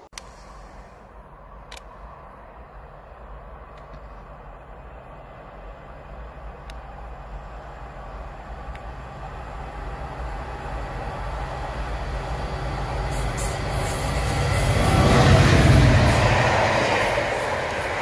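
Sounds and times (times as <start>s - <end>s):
diesel locomotive engine drone: 0.0s - 18.0s
wheels rushing on rails: 0.0s - 18.0s.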